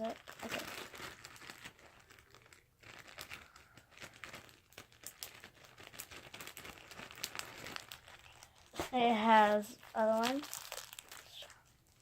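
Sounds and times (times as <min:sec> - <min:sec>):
slime squished with crackles: 0:00.0 - 0:12.0.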